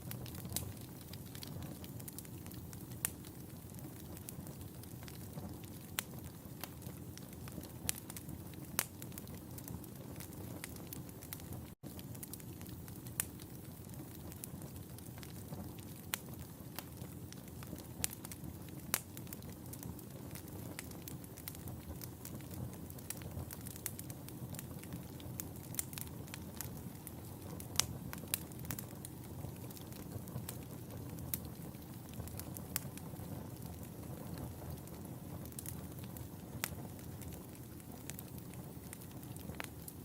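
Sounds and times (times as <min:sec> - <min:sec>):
low rush of flame: 0:00.0 - 0:40.0
wood fire crackling and popping: 0:00.0 - 0:40.0.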